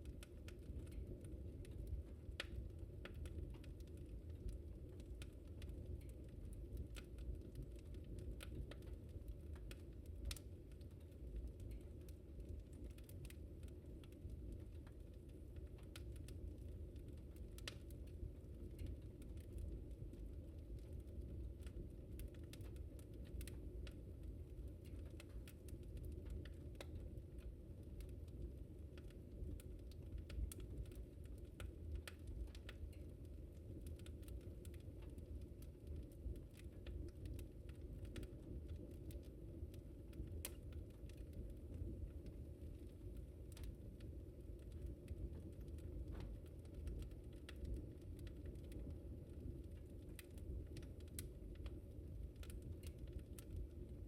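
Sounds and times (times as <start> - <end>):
fire pops and snaps: 0.0 - 54.0
low rumble of flames: 0.0 - 54.0.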